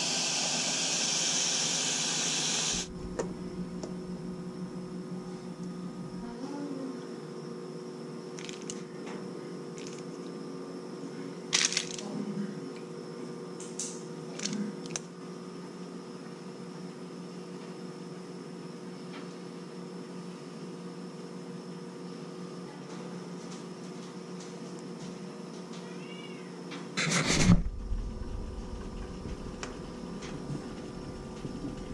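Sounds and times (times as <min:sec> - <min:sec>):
appliance electrical hum: 0:00.0 - 0:31.9.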